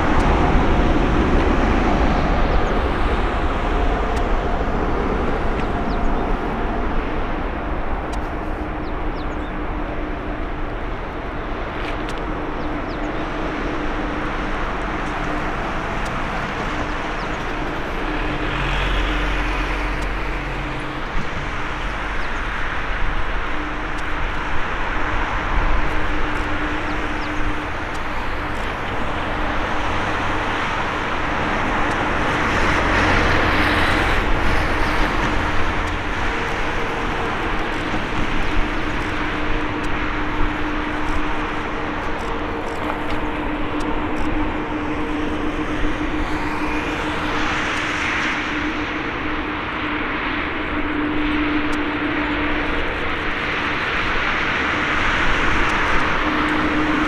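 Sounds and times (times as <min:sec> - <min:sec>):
jet engines taxiing: 0:00.0 - 0:57.0.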